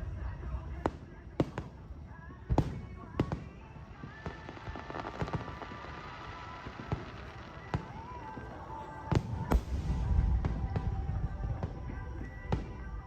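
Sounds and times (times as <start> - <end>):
fireworks crackling: 0.0 - 13.0
fireworks banging: 2.5 - 13.0.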